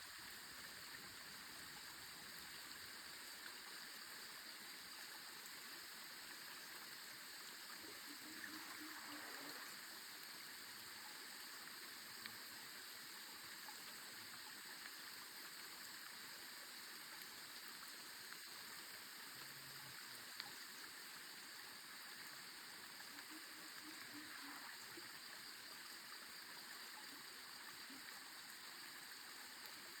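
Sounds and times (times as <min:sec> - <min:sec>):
small creek flowing: 0:00.0 - 0:30.0.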